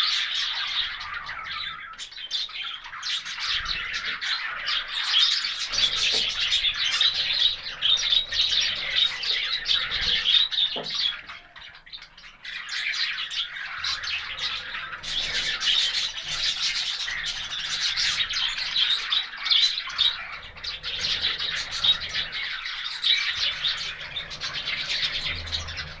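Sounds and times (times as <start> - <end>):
parrots chirping: 0.0 - 26.0.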